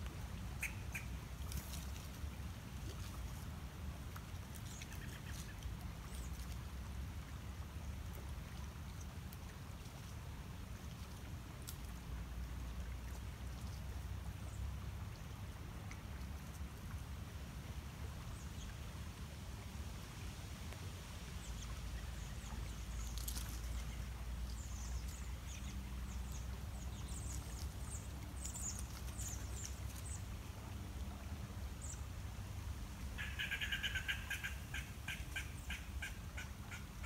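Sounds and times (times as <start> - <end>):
low steady rumble: 0.0 - 37.0.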